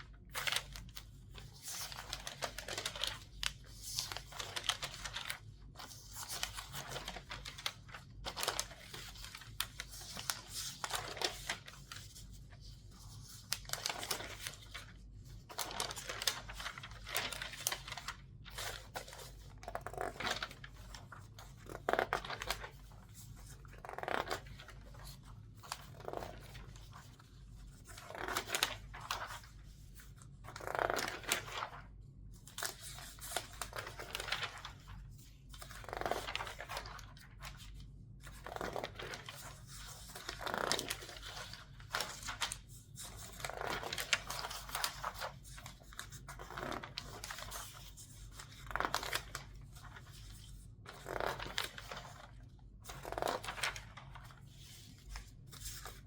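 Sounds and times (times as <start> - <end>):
newspaper crinkling: 0.1 - 56.0
newspaper pages turning: 0.1 - 56.0.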